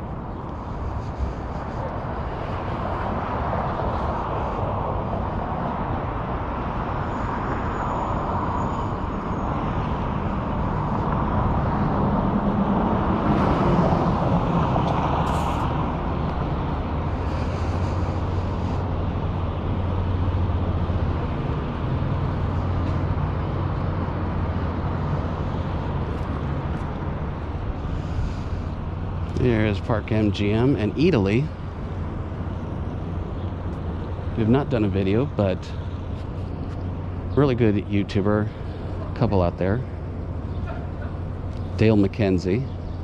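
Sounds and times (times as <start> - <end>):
street traffic: 0.0 - 43.0
vehicle engine humming: 0.0 - 43.0.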